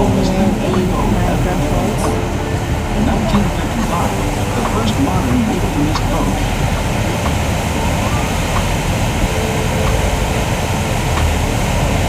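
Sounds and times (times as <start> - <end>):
boat rumbling rush through water: 0.0 - 12.0.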